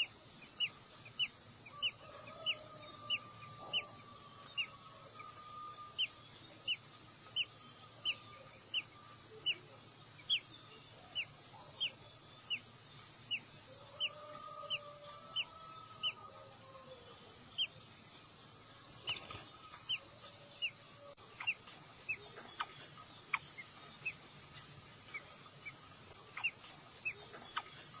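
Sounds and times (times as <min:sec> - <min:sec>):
bird chirping: 0:00.0 - 0:16.4, 0:17.4 - 0:28.0
high-pitched insect drone: 0:00.0 - 0:28.0.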